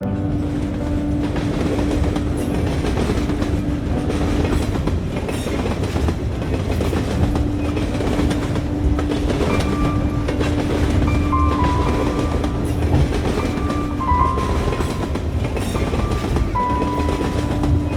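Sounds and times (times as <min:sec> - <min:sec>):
train rumble: 0:00.0 - 0:17.9
train wheel clatter: 0:00.0 - 0:17.9.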